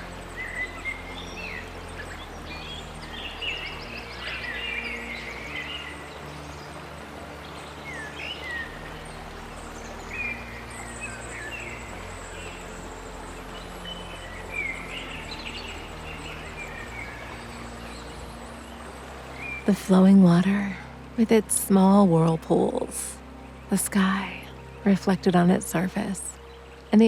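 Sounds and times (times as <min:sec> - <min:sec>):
soft ambient music: 0:00.0 - 0:27.0
stream rushing: 0:00.0 - 0:27.0.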